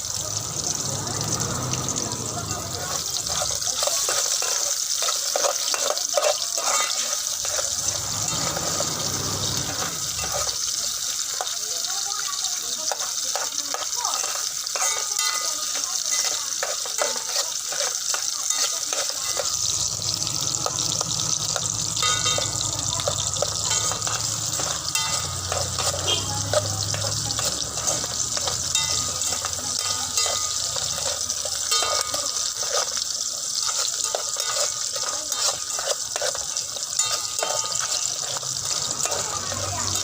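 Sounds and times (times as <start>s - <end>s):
food sizzling in a pan: 0.0s - 40.0s
spatula scraping a pan: 0.6s - 40.0s.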